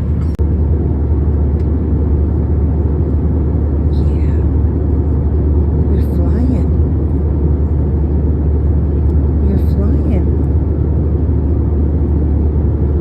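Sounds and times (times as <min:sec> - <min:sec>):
airliner cabin engine drone: 0:00.0 - 0:13.0.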